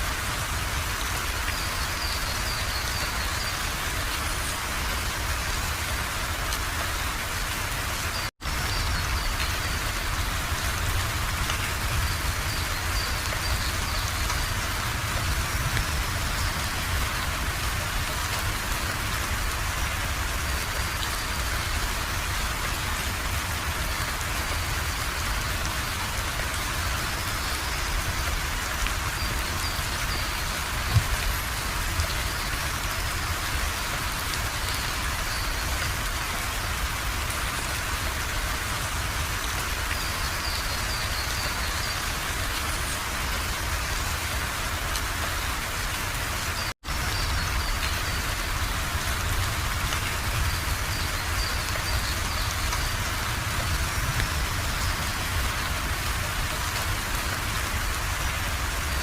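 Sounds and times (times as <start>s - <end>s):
steady rain patter: 0.0s - 59.0s.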